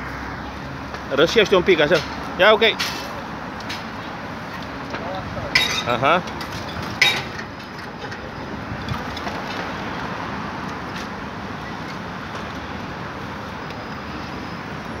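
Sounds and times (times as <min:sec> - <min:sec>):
city road traffic hum: 0:00.0 - 0:15.0.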